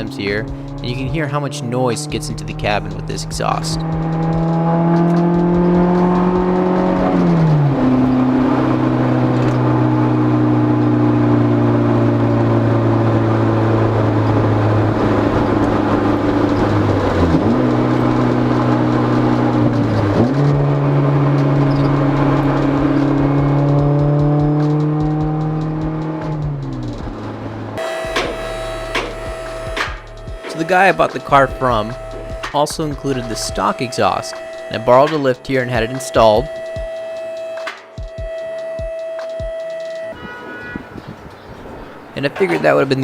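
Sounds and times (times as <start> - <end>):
car engine and exhaust from inside cabin: 0.0 - 40.3.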